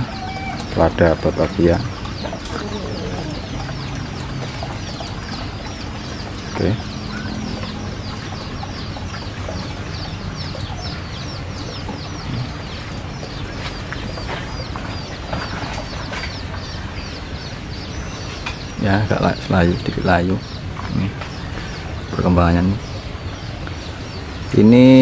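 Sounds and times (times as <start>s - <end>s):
low hum: 0.0s - 24.9s
chorus of bird chirps: 0.0s - 25.0s.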